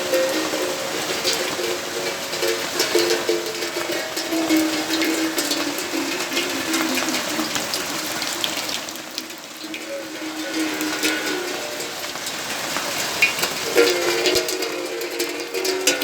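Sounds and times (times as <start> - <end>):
falling rain wash: 0.0 - 16.0
raindrops ticking on surfaces: 0.0 - 16.0.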